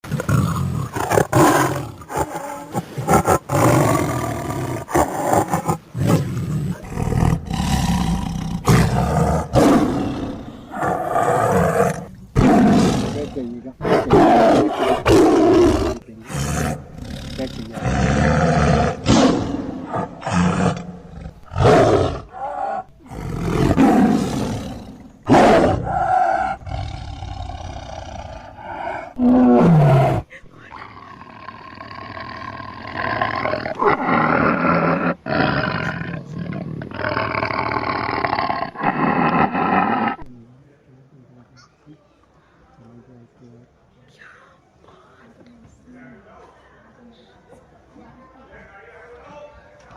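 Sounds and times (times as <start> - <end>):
tiger roaring: 0.0 - 40.3.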